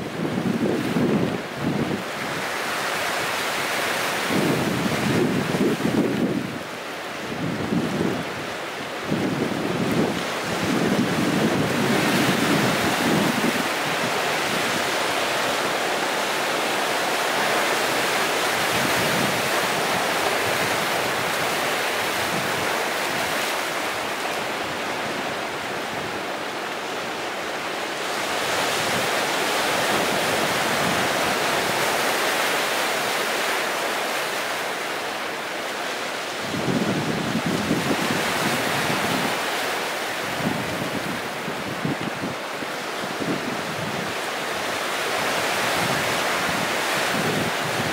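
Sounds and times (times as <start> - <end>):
sea waves washing over rocks: 0.0 - 47.9.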